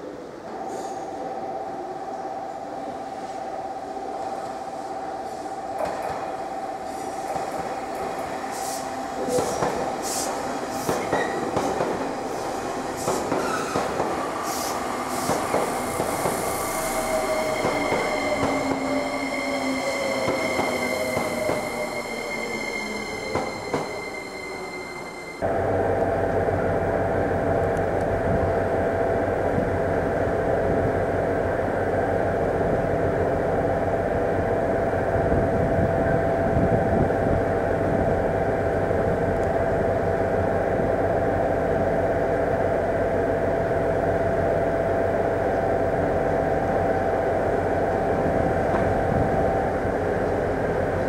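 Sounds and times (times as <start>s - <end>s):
electric train rumbling with whine: 0.0s - 51.0s.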